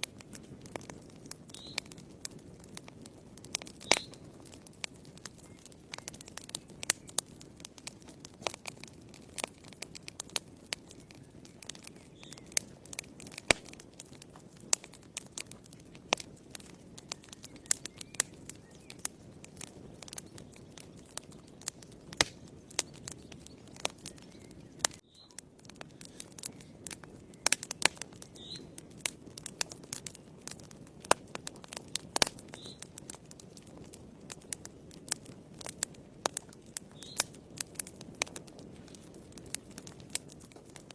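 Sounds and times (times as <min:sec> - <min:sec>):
fire crackling and popping: 0:00.0 - 0:40.9
low rush of flame: 0:00.0 - 0:40.9.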